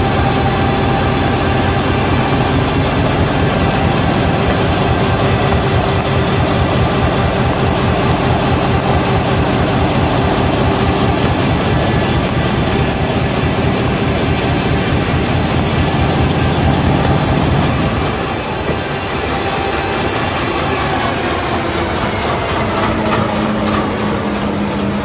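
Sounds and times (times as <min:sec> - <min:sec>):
printing machine running: 0:00.0 - 0:25.0.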